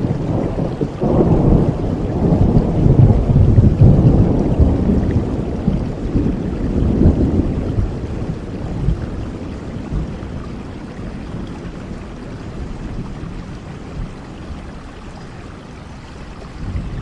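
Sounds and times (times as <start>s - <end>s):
low rumble of thunder: 0.0s - 17.0s
steady rain: 0.0s - 17.0s.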